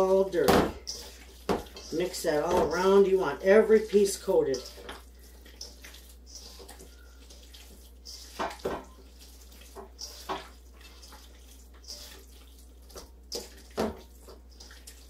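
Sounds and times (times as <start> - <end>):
hands squishing sticky dough: 0.0 - 15.0.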